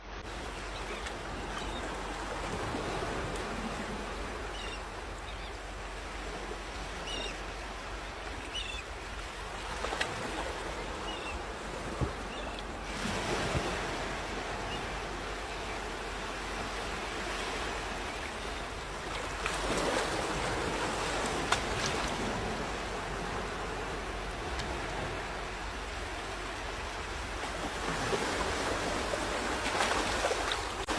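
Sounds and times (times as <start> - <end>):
sea surf washing onto beach: 0.2 - 30.9
waves breaking: 0.2 - 30.9.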